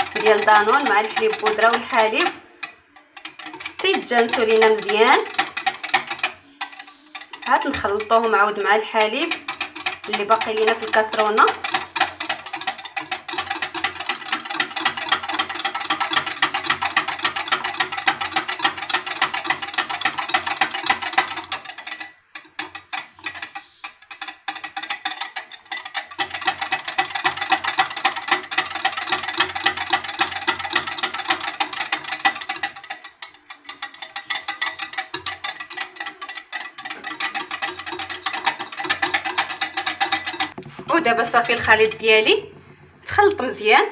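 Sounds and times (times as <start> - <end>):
whisk clattering against glass bowl: 0.0 - 42.4.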